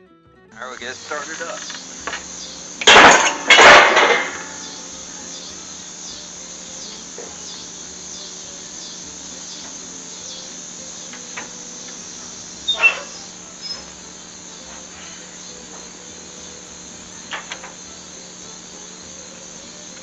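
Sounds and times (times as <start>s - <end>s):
low steady hum: 0.5s - 20.0s
crickets chirping: 0.6s - 20.0s.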